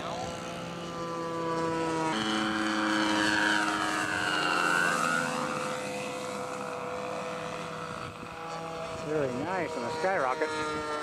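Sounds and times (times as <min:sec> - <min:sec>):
model airplane engine drone: 0:00.0 - 0:11.0.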